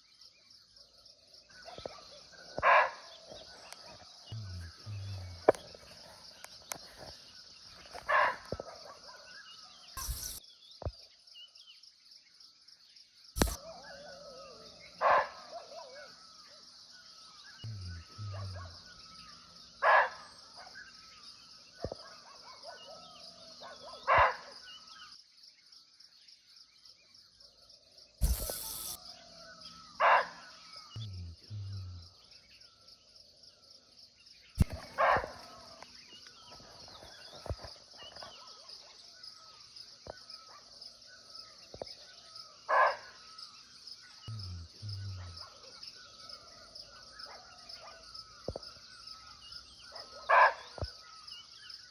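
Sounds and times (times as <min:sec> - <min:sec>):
high insect drone: 0:00.0 - 0:10.4, 0:12.4 - 0:26.0, 0:27.2 - 0:51.9
bird calls: 0:00.8 - 0:11.6, 0:13.4 - 0:25.2, 0:27.8 - 0:51.9.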